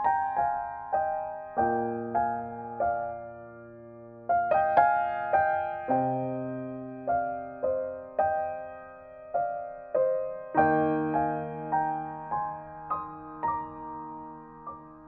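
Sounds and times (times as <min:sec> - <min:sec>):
solo piano notes and chords: 0:00.0 - 0:15.0.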